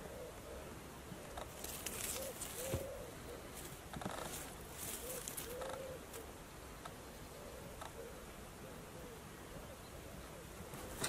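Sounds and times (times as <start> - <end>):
bird cooing: 0.0 - 11.0.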